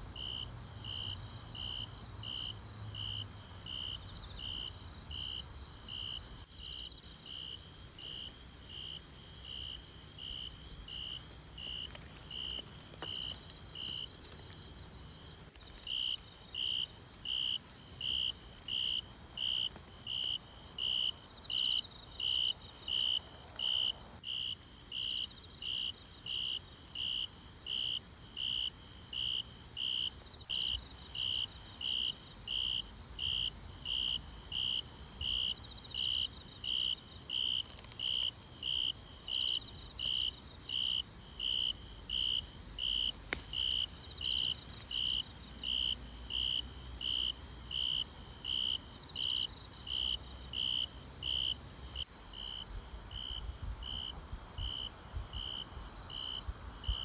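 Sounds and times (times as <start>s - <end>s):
cricket chirping: 0.0s - 57.0s
high insect calls: 0.0s - 57.0s.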